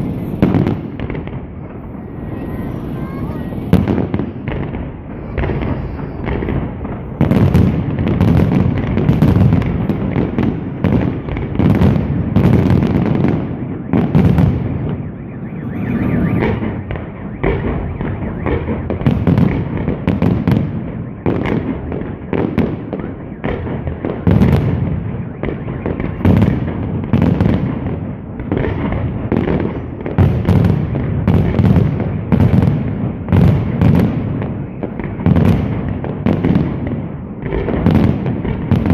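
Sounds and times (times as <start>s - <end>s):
fireworks bangs: 0.0s - 38.9s
rumble of echoing explosions: 0.0s - 38.9s.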